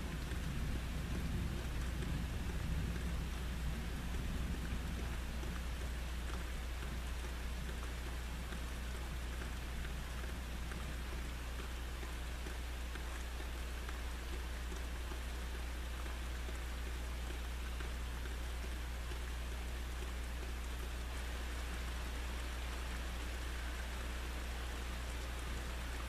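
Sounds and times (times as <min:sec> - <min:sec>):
raindrops ticking close by: 0:00.0 - 0:26.0
steady heavy rain: 0:00.0 - 0:26.0.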